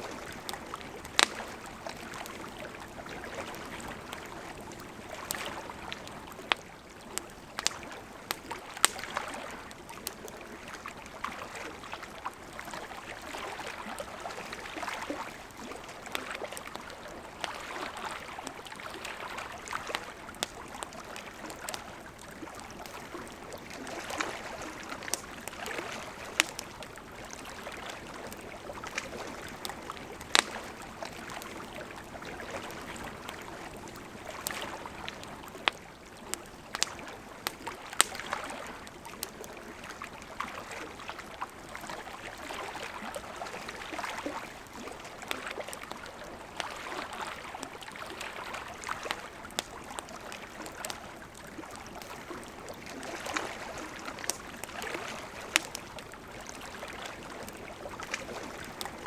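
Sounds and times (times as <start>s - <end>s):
campfire crackling: 0.0s - 59.0s
river flowing: 0.0s - 59.0s.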